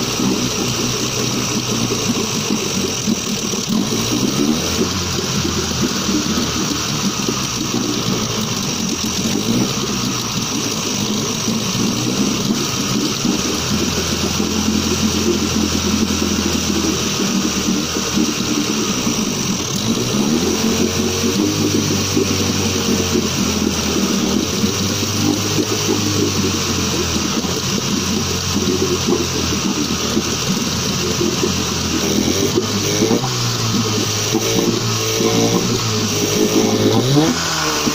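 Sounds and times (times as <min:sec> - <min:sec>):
outboard motor running: 0:00.0 - 0:37.9
water churning: 0:00.0 - 0:37.9.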